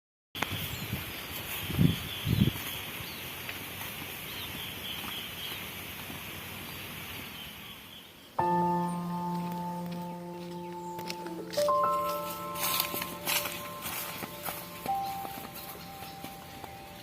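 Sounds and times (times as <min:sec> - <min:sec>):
small birds chirping: 0:00.4 - 0:17.0.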